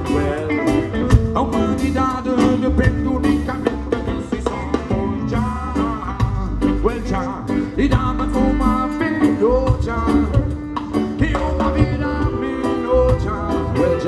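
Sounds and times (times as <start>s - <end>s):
heavy bass: 0.0s - 14.0s
live band playing ska groove: 0.0s - 14.0s.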